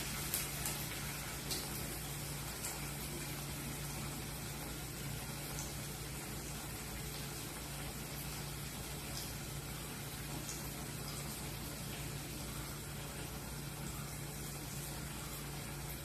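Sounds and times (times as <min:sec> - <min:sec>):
hot oil bubbling and sizzling: 0:00.0 - 0:16.0
low steady hum: 0:00.0 - 0:16.0.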